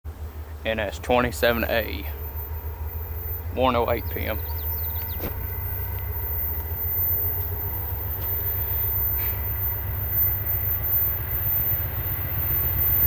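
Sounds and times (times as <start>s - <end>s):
distant diesel locomotive rumble: 0.1s - 13.0s.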